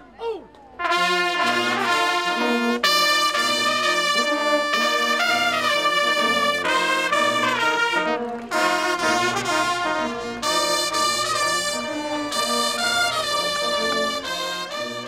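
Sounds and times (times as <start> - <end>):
trumpets playing in harmony: 0.8 - 15.0.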